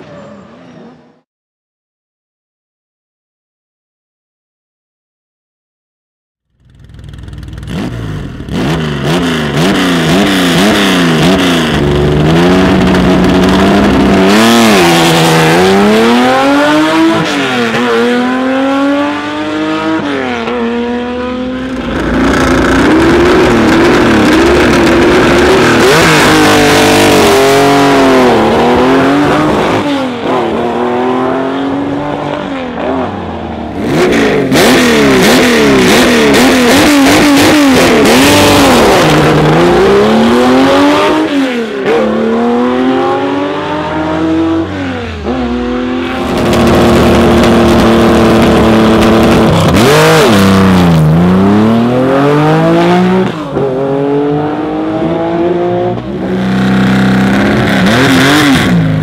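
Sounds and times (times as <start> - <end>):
car engine revving hard: 7.6 - 59.0.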